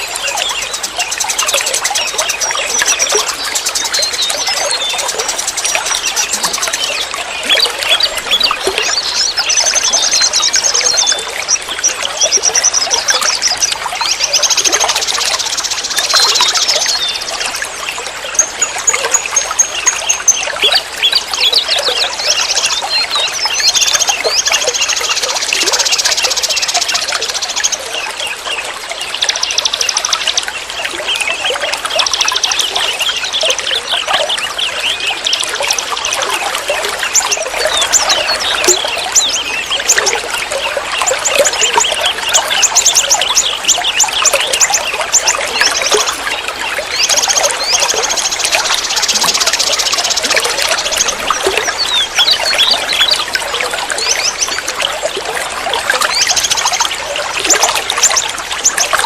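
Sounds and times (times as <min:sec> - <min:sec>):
small birds chirping and trilling: 0:00.0 - 0:59.0
stream water trickling: 0:00.0 - 0:59.0.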